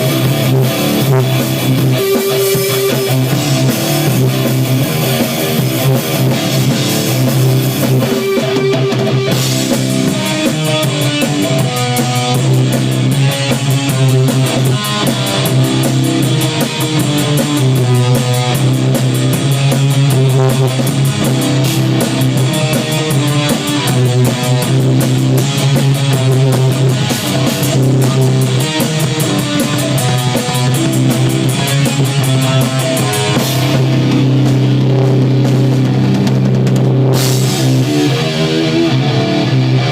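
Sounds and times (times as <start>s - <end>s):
cymbals ticking fast: 0.0s - 34.5s
live rock music: 0.0s - 39.9s.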